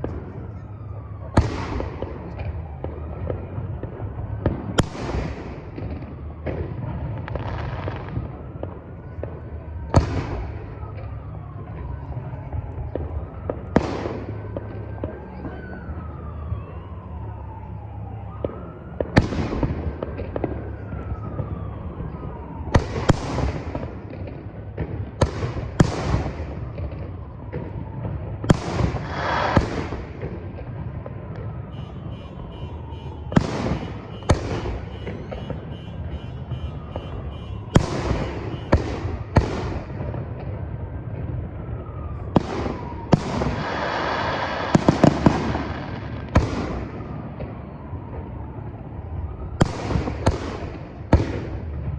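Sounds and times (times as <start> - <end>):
fireworks bangs: 0.0 - 16.7, 18.4 - 51.9.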